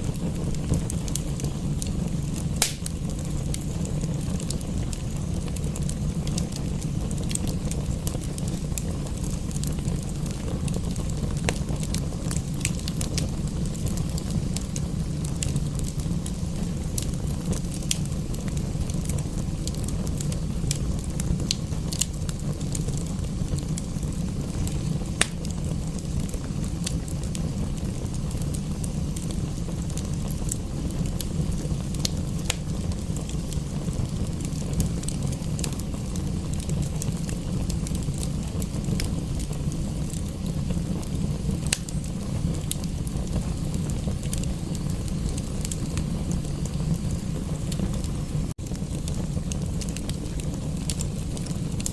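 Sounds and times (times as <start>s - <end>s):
sharp pops of fire: 0.0s - 51.9s
wood fire crackling: 0.0s - 51.9s.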